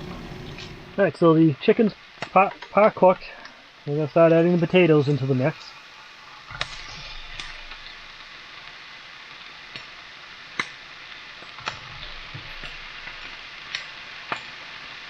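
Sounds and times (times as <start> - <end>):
chicken sizzling in skillet: 0.4 - 15.0.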